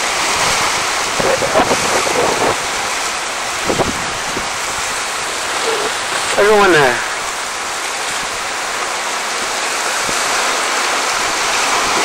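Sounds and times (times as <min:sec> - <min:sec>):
sea water washing among rocks: 0:00.0 - 0:12.0.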